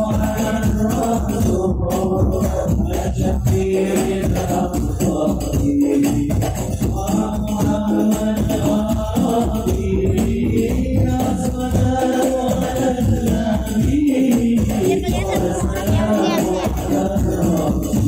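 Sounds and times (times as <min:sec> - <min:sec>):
devotional singing: 0:00.0 - 0:18.0
frame drums and jingles: 0:00.0 - 0:18.0.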